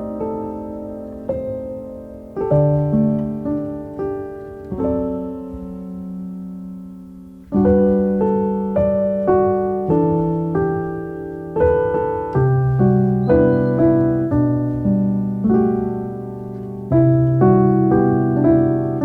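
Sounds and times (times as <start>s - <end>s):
calm piano music: 0.0s - 19.0s.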